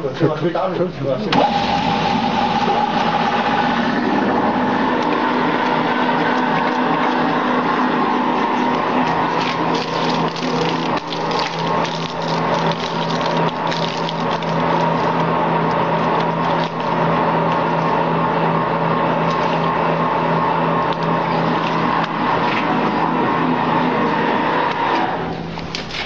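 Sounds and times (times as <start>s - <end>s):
air pump humming: 1.2s - 26.0s.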